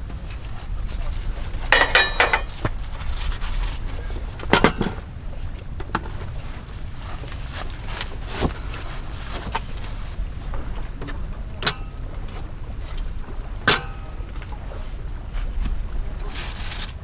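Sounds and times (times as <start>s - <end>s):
camp gear knocking and clinking: 0.1s - 14.6s.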